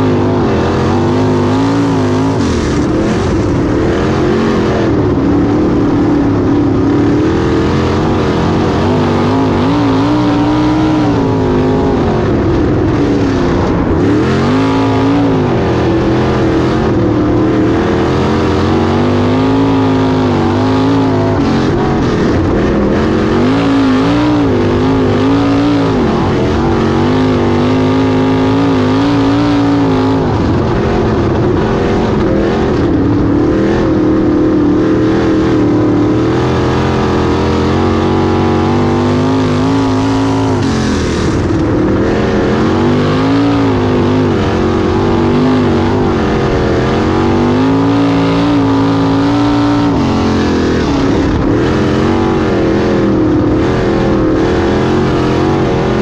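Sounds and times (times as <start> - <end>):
race car engine at speed: 0.0 - 56.0.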